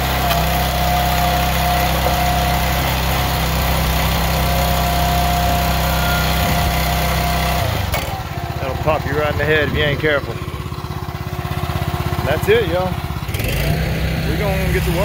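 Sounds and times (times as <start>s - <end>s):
small gas engine running: 0.0s - 15.0s.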